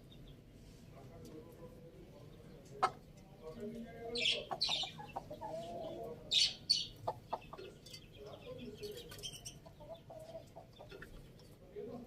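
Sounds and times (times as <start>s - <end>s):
chickens clucking softly: 1.0s - 11.9s.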